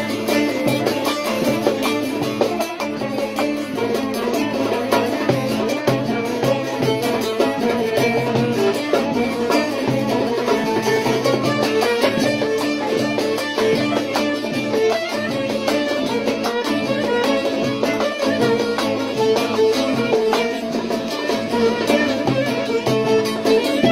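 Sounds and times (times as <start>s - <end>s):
long-necked lute playing folk tune: 0.0s - 23.9s.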